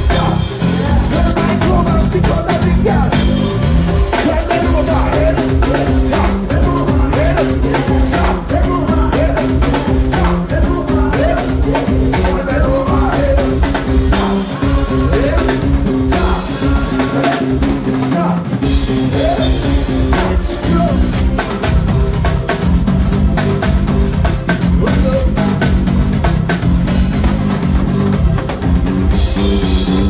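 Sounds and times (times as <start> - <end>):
live band playing: 0.0 - 30.0
sustained bass notes: 0.0 - 30.0.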